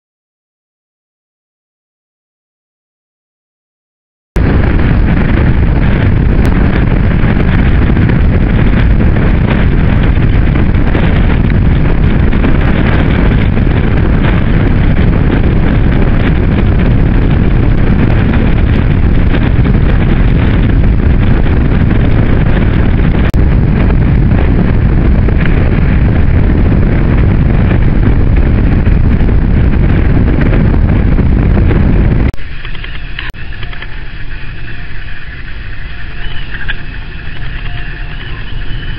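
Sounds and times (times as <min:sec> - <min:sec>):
wind buffeting microphone: 0:04.4 - 0:38.9.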